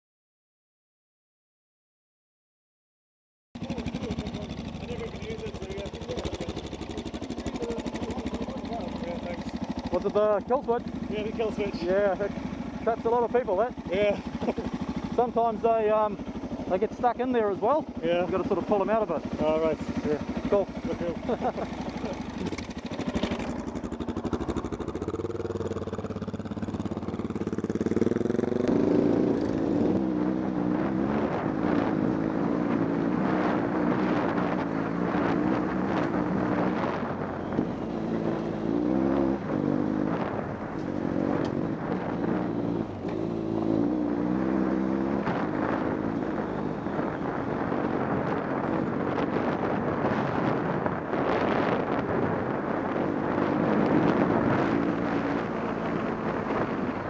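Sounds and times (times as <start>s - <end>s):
motorcycle engine accelerating: 3.6s - 57.0s.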